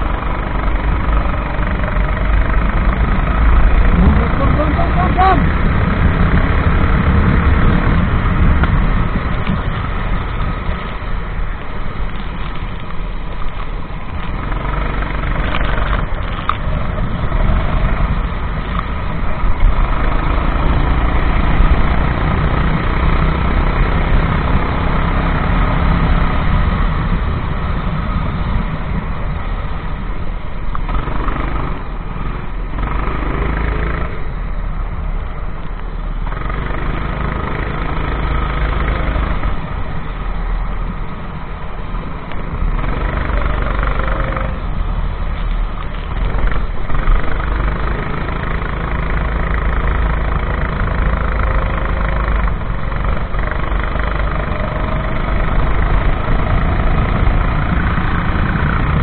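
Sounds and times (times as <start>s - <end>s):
kart engine running hard: 0.0s - 12.8s, 13.4s - 40.1s, 40.8s - 59.0s.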